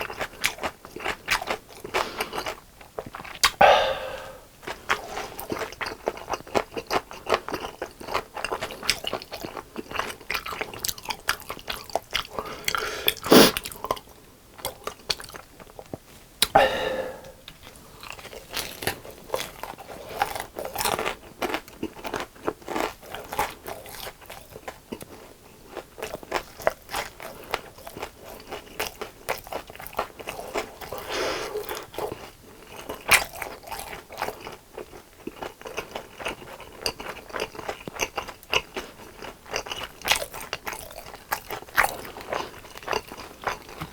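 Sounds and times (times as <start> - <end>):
crunching and chewing fried chicken: 0.0 - 3.6, 4.5 - 16.6, 17.4 - 43.9.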